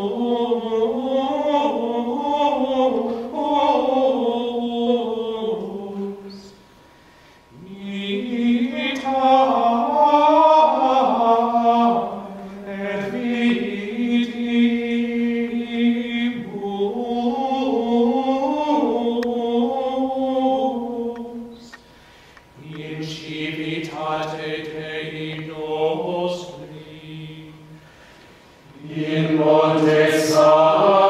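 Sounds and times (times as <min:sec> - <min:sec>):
choir singing chant: 0:00.0 - 0:06.4, 0:07.6 - 0:21.5, 0:22.6 - 0:27.7, 0:28.7 - 0:31.0.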